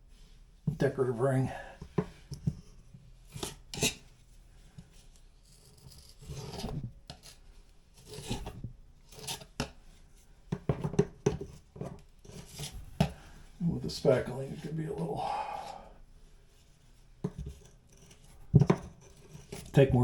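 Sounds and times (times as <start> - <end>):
spackle scraping over drywall: 2.6 - 10.2, 11.4 - 20.0.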